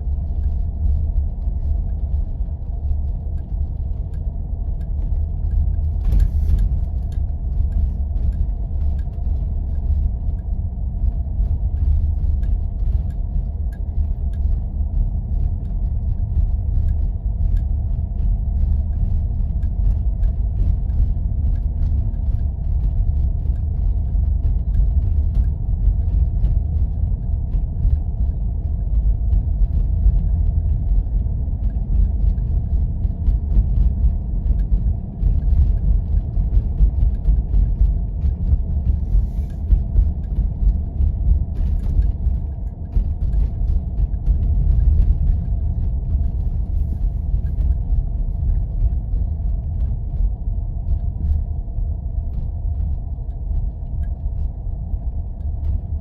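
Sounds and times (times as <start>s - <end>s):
vehicle engine and tyre drone: 0.0s - 56.0s.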